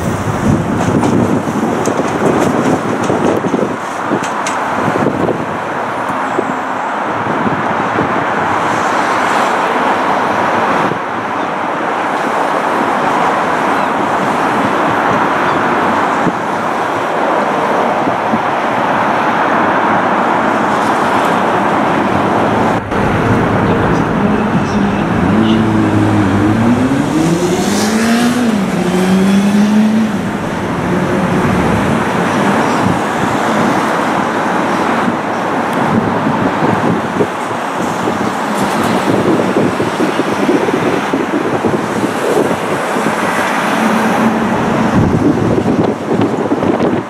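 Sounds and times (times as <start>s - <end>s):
train wheel and rail noise: 0.0s - 47.0s.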